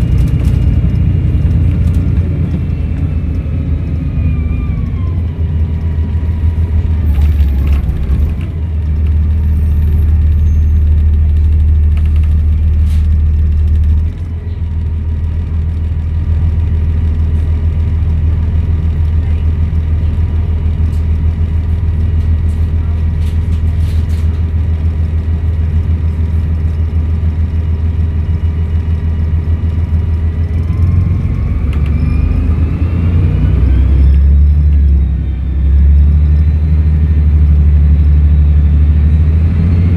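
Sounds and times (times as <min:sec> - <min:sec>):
diesel bus engine rumbling: 0:00.0 - 0:39.9.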